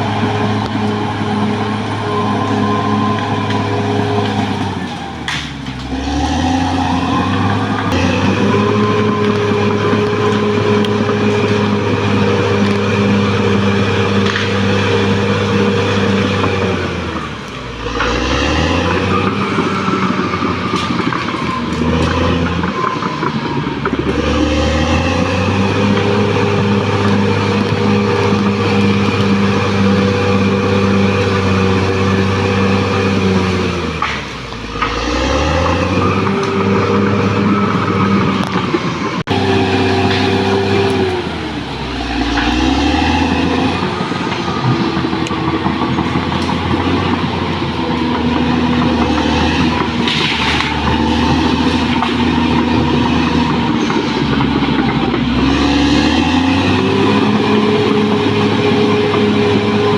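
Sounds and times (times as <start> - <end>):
bulldozer diesel engine running: 0.0 - 59.9
steel tracks clattering: 0.0 - 59.9.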